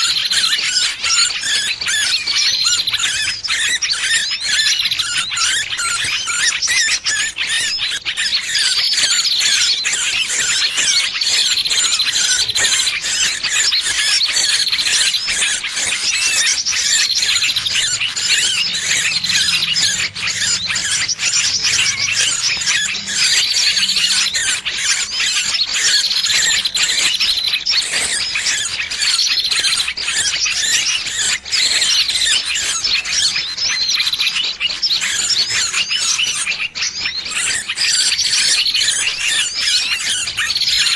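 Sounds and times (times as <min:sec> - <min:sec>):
birds distress squeals: 0:00.0 - 0:40.9.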